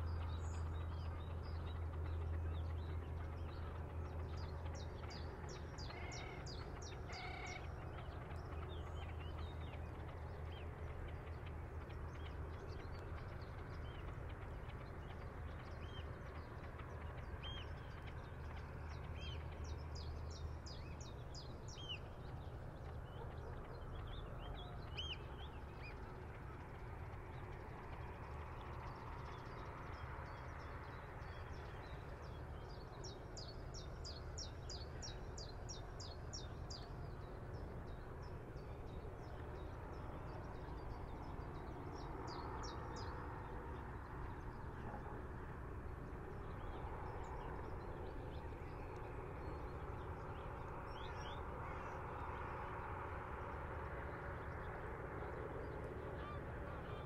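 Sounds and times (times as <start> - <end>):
light breeze: 0.0 - 57.0.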